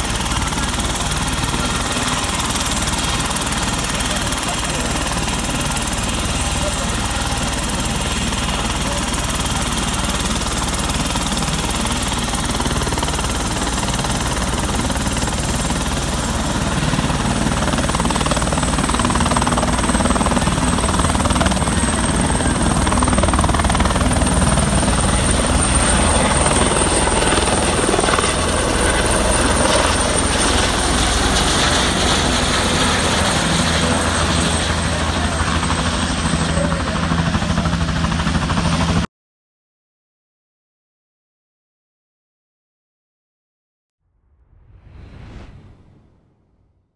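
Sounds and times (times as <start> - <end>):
helicopter rotor chopping: 0.0 - 39.0
helicopter engine noise: 0.0 - 39.1.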